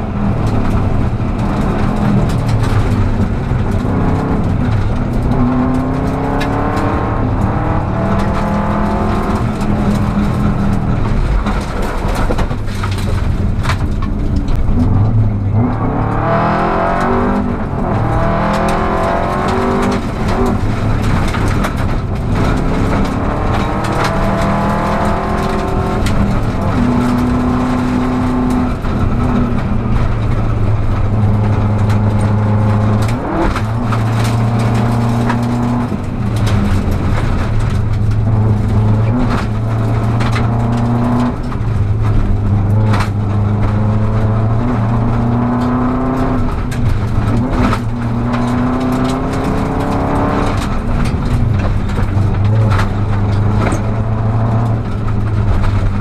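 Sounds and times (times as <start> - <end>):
gravel hitting car: 0.0 - 56.0
rally car engine revving: 0.0 - 56.0.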